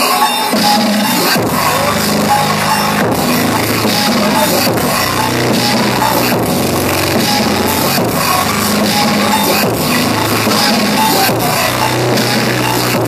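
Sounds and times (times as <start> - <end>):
loud dance music with drums: 0.0 - 13.0.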